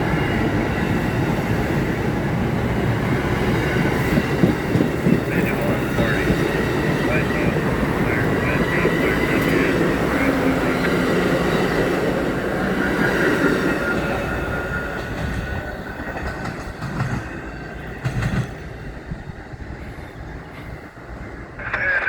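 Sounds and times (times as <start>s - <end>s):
train rumbling along rails: 0.0s - 22.0s.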